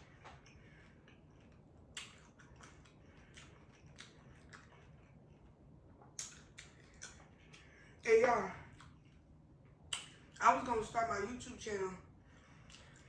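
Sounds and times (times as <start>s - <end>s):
person chewing food: 0.0s - 8.0s, 8.6s - 10.4s, 12.3s - 13.0s.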